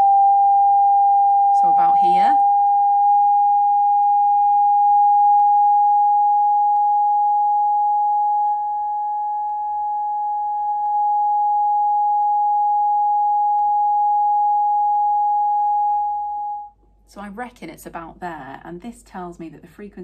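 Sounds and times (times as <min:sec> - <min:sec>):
steady pure tone: 0:00.0 - 0:19.8.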